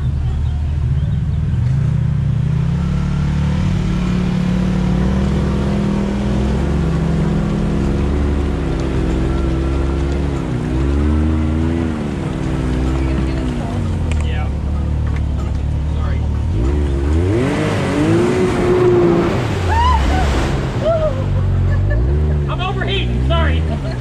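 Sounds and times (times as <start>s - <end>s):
off-road vehicle engine: 0.0s - 24.0s
second engine wavering in pitch: 0.0s - 24.0s.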